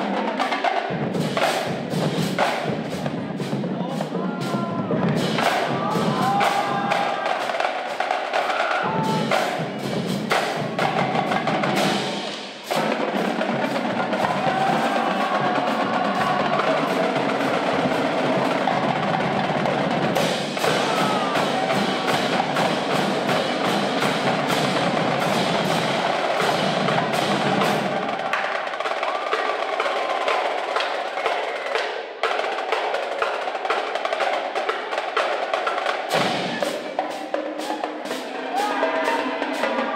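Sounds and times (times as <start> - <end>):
marching drumline playing: 0.0 - 39.9.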